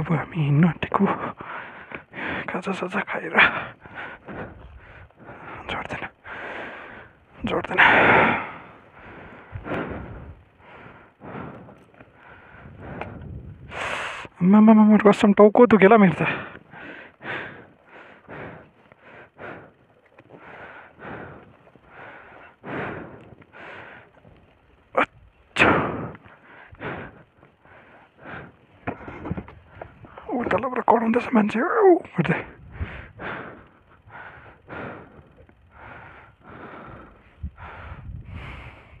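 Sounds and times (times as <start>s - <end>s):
person breathing heavily: 1.1s - 2.6s, 3.3s - 14.4s, 16.1s - 30.4s, 32.1s - 39.0s.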